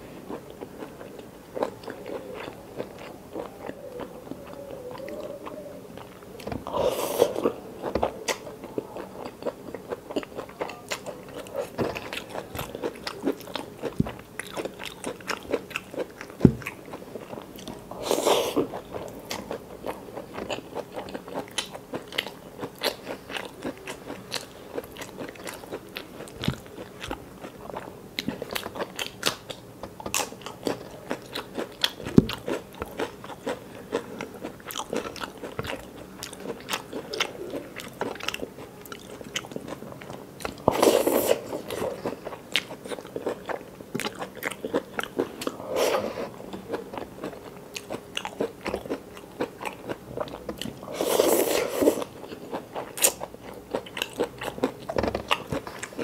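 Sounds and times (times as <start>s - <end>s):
close-miked chewing: 0.2s - 56.0s.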